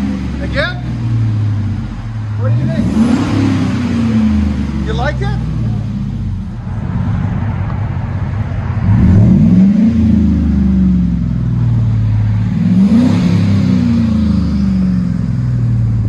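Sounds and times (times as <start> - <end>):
truck engine idling and revving: 0.0 - 16.0.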